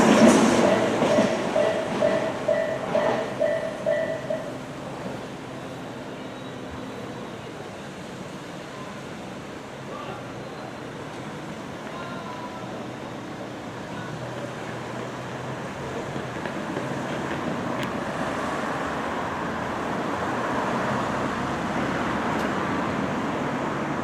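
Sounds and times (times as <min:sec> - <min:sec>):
road traffic: 0:00.0 - 0:24.0.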